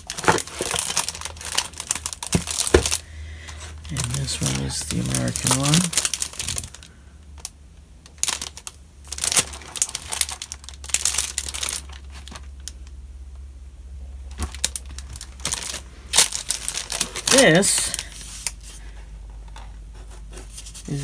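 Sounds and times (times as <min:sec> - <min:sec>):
plastic wrapping crinkling: 0:00.0 - 0:13.0, 0:14.3 - 0:19.6.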